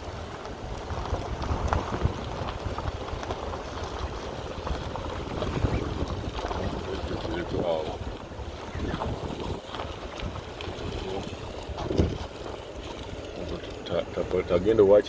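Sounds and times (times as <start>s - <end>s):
vehicle rumbling along road: 0.0s - 15.0s
wind buffeting microphone: 0.0s - 15.0s.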